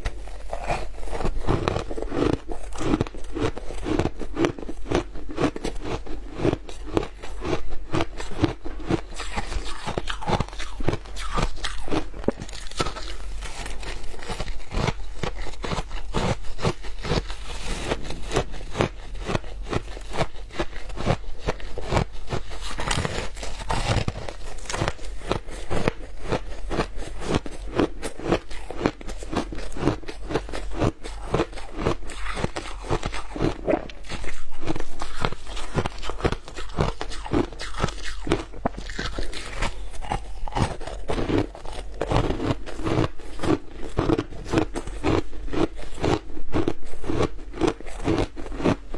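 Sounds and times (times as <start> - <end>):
ice being crunched by teeth: 0.0 - 48.9.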